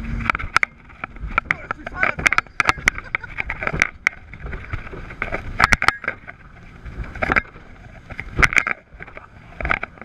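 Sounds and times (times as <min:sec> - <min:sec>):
hull slamming over waves: 0:00.0 - 0:10.0
outboard motors running fast: 0:00.0 - 0:10.0
wind buffeting microphone: 0:00.0 - 0:10.0.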